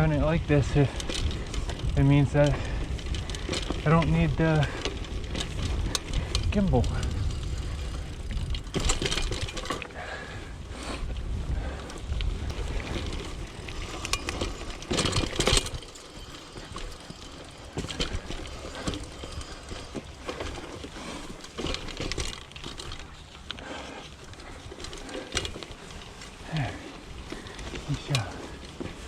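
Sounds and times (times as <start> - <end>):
bike frame rattling and knocking: 0.0 - 10.4, 11.6 - 29.0
bike tyres on bumpy trail: 0.0 - 29.0.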